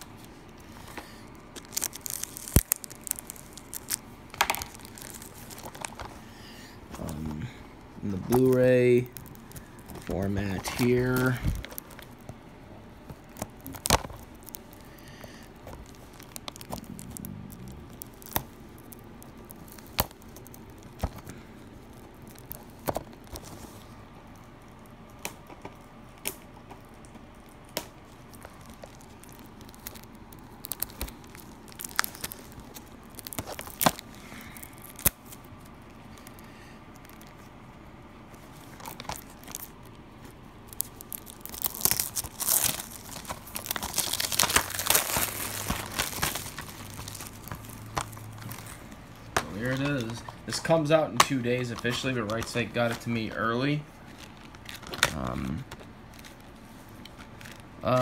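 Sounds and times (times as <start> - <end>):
plastic packaging being torn open: 0.0 - 6.3, 8.0 - 12.4, 13.0 - 37.6, 38.3 - 58.0.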